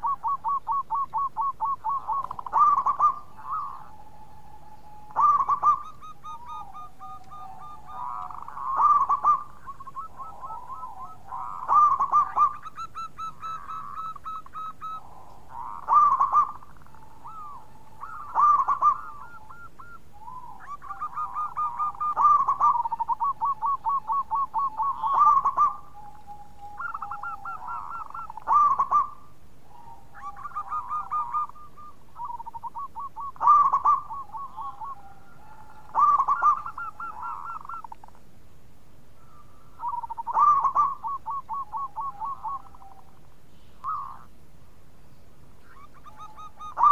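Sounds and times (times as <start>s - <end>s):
doves cooing: 0.0s - 38.3s, 39.2s - 44.4s, 45.5s - 46.9s.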